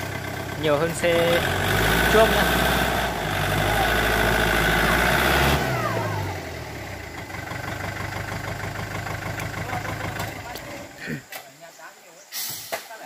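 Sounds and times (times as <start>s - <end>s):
tractor diesel engine under load: 0.0s - 11.3s.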